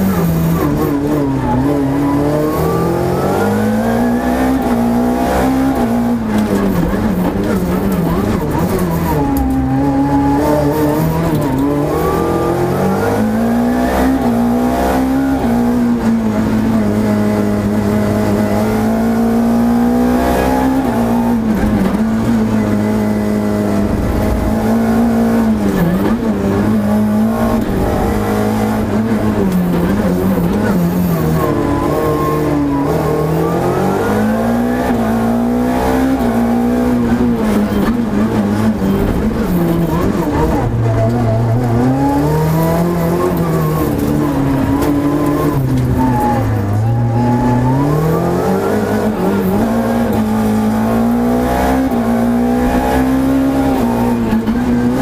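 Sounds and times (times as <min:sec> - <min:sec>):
rally car engine accelerating: 0:00.0 - 0:55.0.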